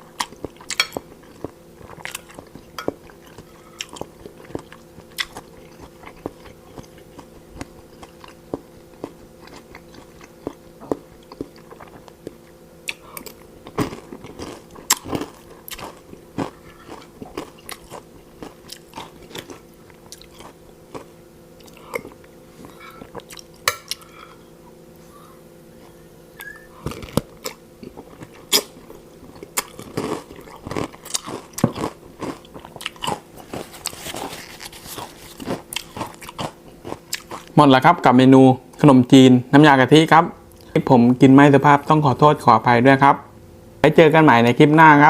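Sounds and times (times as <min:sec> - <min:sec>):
person chewing crunchy food: 0:00.0 - 0:37.6
faint steady hum: 0:00.0 - 0:45.0.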